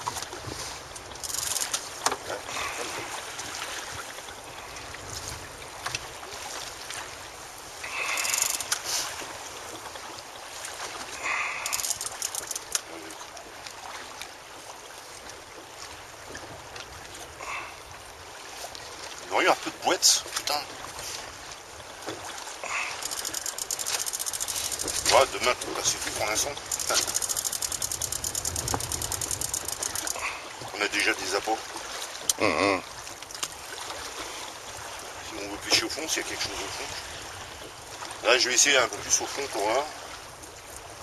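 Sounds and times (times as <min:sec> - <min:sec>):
wind and water rushing: 0:00.0 - 0:41.0.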